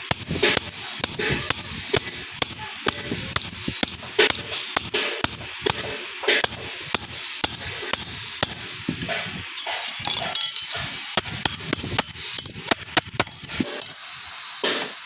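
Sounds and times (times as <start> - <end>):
hammer striking steel: 0.1 - 14.0.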